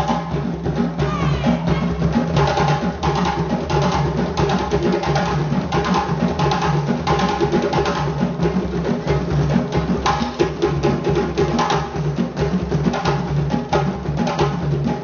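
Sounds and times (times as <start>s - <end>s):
drums: 0.0s - 15.0s
wooden percussion: 0.0s - 15.0s.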